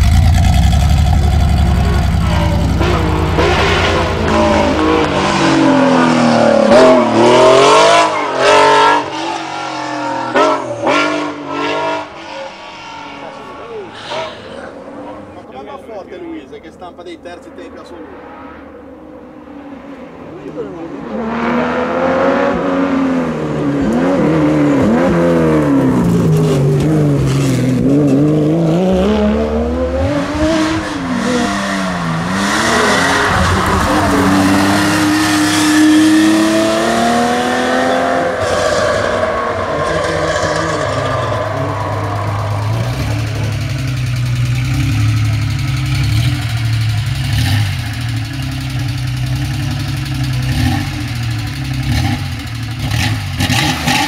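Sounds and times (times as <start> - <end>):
car engines revving hard: 0.0 - 15.7, 18.0 - 54.0.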